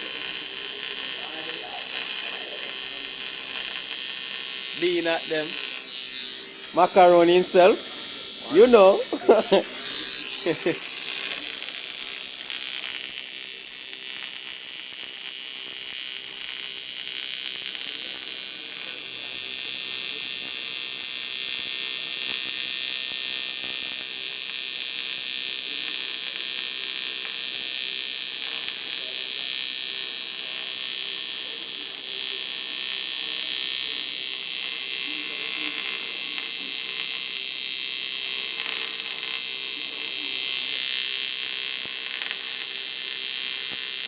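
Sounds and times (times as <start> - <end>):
welding arc buzzing and hissing: 0.0 - 44.0.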